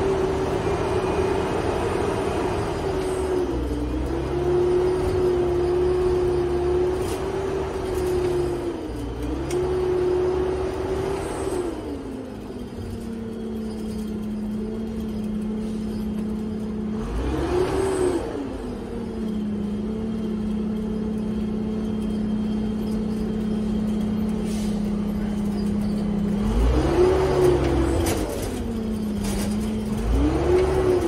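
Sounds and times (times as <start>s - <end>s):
bus engine droning: 0.0s - 31.0s.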